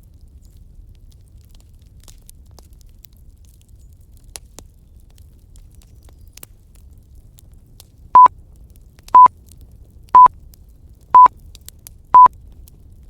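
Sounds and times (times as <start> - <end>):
faint bonfire crackle: 0.0 - 13.0.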